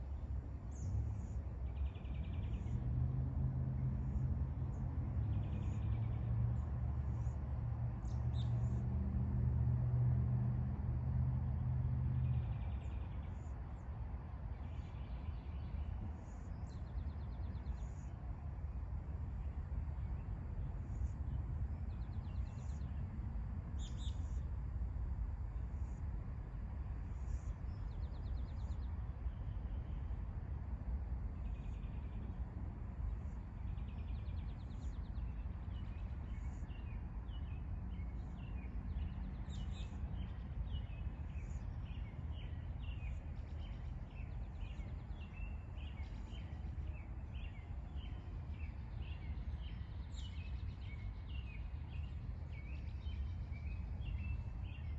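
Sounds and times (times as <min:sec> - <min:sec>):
low outdoor rumble: 0:00.0 - 0:54.9
wild birds chirping and trilling: 0:00.1 - 0:09.2, 0:14.5 - 0:30.3, 0:31.2 - 0:54.9.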